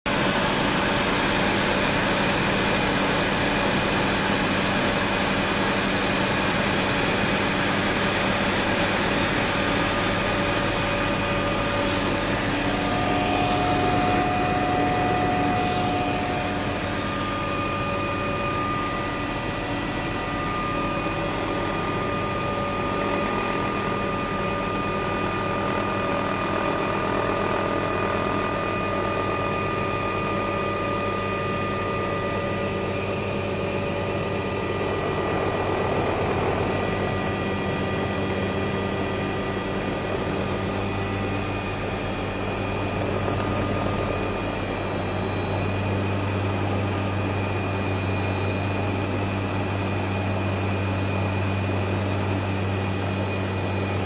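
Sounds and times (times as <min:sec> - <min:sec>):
small aircraft cabin drone: 0:00.1 - 0:54.0.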